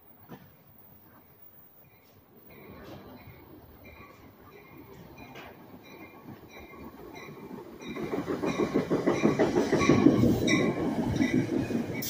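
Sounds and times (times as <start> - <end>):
train wheels clattering on rails: 1.9 - 12.0.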